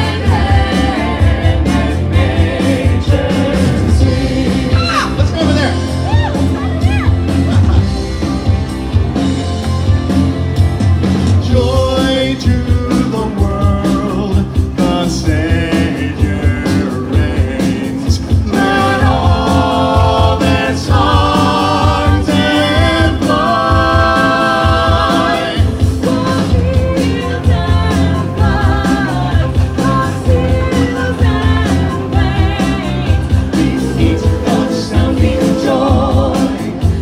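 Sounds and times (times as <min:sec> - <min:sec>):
rock music with singing: 0:00.0 - 0:37.0.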